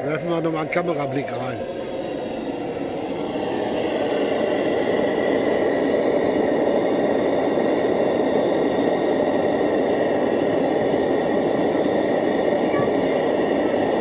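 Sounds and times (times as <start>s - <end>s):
blowlamp flame rushing: 0.0s - 14.0s.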